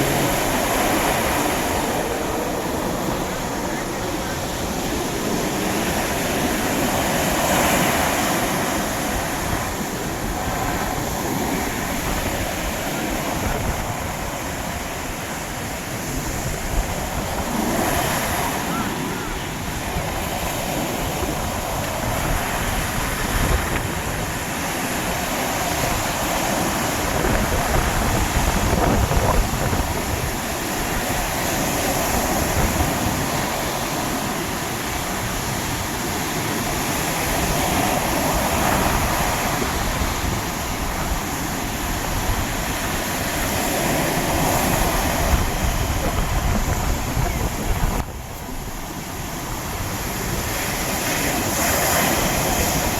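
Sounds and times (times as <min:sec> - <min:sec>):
sea waves breaking on shore: 0:00.0 - 0:52.9.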